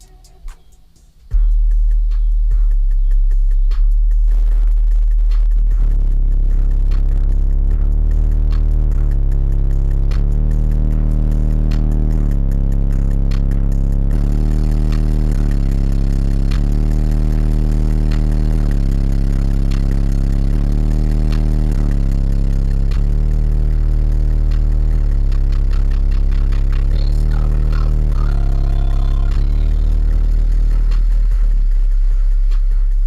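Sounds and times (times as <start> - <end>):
bass-heavy music from car speakers: 0.0 - 33.0.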